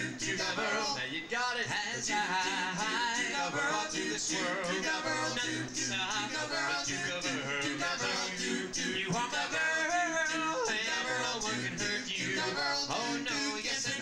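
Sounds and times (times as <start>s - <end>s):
male vocal group singing: 0.0s - 14.0s.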